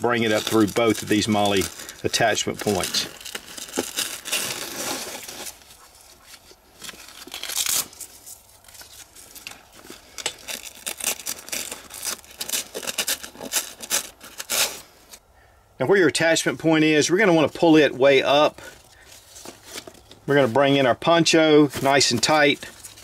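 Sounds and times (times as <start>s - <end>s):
strap scraping against webbing: 0.0s - 15.2s, 17.4s - 23.0s.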